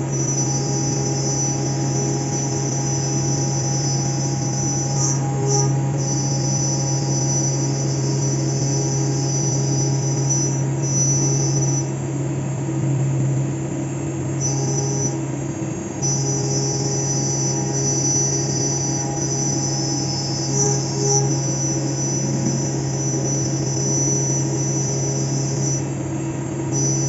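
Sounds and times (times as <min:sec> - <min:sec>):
high-pitched cutting whine: 0:00.0 - 0:27.0
low machine hum: 0:00.0 - 0:27.0.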